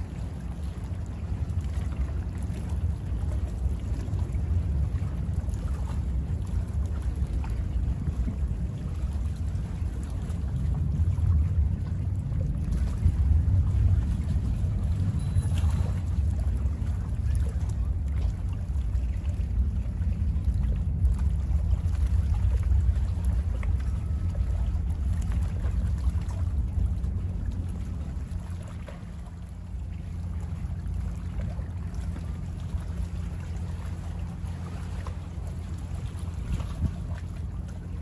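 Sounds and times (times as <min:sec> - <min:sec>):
choppy water lapping: 0:00.0 - 0:38.0
faint splashes: 0:00.0 - 0:38.0
wind buffeting microphone: 0:00.0 - 0:38.0.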